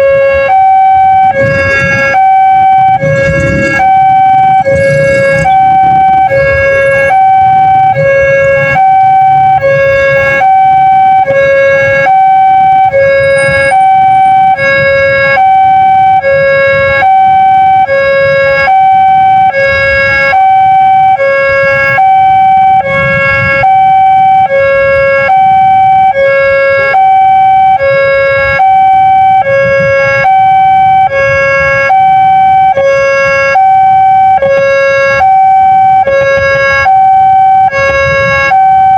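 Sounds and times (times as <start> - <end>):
two-tone crossing alarm: 0.0 - 38.9.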